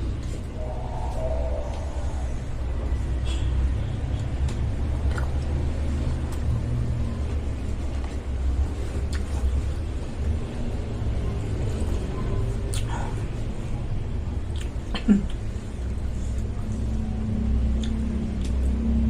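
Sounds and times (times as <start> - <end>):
close-miked eating: 0.1 - 19.0.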